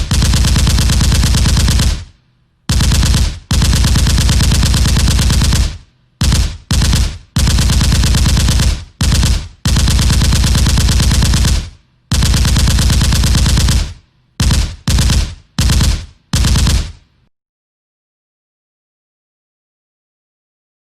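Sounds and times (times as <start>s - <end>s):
automatic gun firing bursts: 0.0s - 17.0s.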